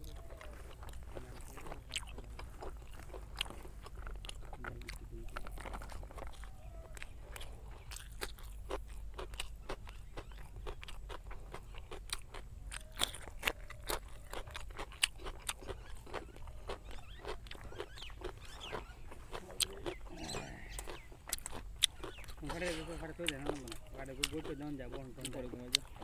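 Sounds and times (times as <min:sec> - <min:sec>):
mouth clicks: 0:00.0 - 0:26.0
wet crunchy chewing: 0:00.0 - 0:26.0.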